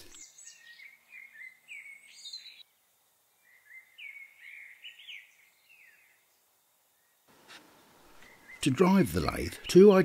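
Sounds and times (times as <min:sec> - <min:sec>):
faint songbird chirping: 0:00.0 - 0:10.0.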